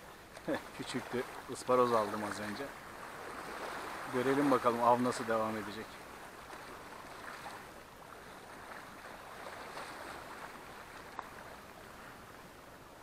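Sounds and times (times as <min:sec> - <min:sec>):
small waves lapping: 0:00.0 - 0:13.0.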